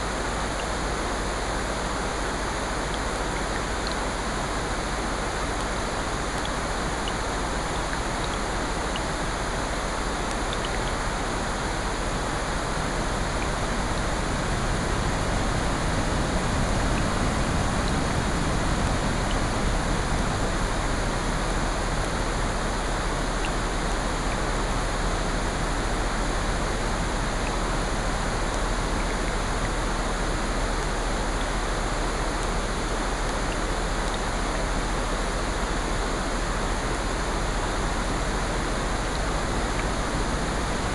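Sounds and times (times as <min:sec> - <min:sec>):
rain: 0:00.0 - 0:40.9
ocean surf: 0:04.2 - 0:40.9.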